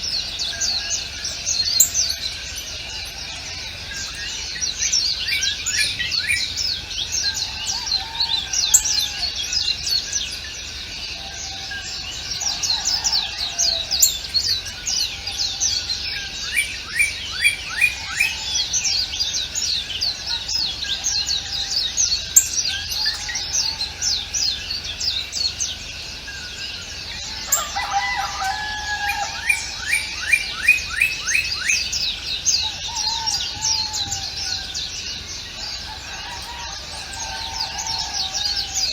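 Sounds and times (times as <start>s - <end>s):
lower warbled bird calls: 0.0s - 38.9s
songbirds chirping: 0.0s - 38.9s.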